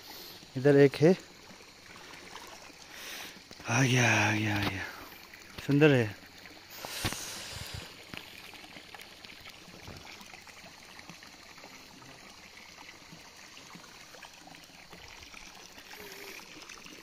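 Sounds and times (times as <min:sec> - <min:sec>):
pond water lapping: 0:00.0 - 0:17.0.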